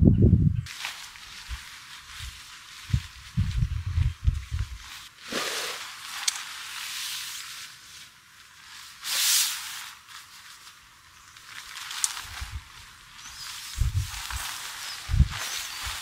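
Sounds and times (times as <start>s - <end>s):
nylon tent fabric rustling: 0.7s - 16.0s.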